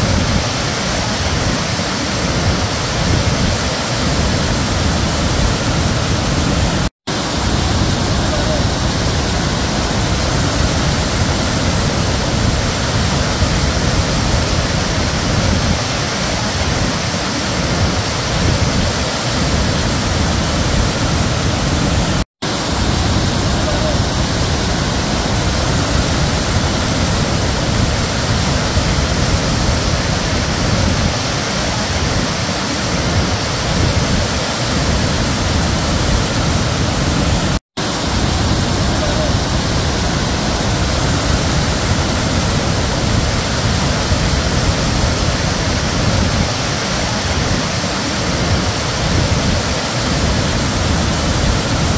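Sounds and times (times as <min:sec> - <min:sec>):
waterfall rushing over rock: 0:00.0 - 0:51.9.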